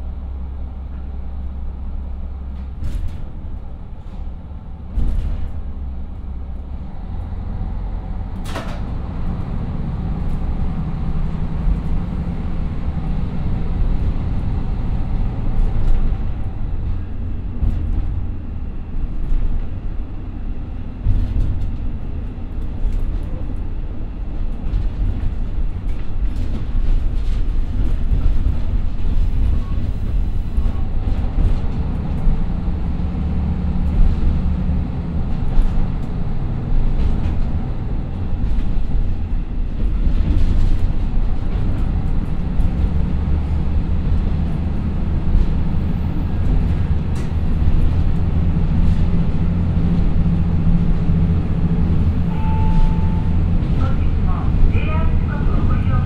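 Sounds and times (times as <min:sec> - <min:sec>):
diesel railcar engines under load: 0:00.0 - 0:56.0.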